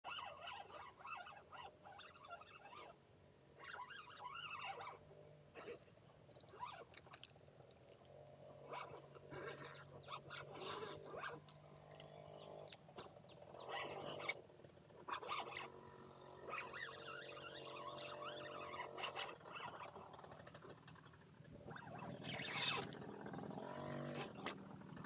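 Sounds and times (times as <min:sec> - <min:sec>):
distant animal calls: 0:00.0 - 0:03.0, 0:03.6 - 0:07.3, 0:08.4 - 0:25.0.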